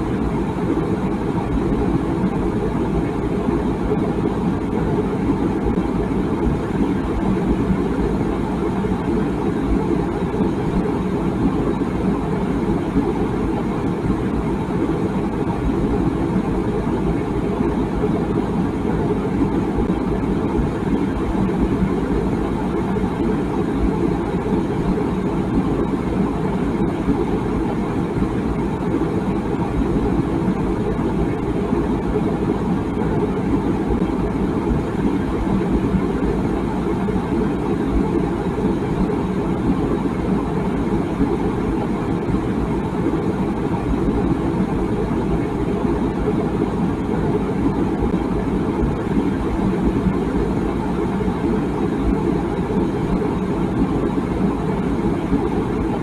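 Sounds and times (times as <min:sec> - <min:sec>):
water boiling in a kettle: 0:00.0 - 0:56.0.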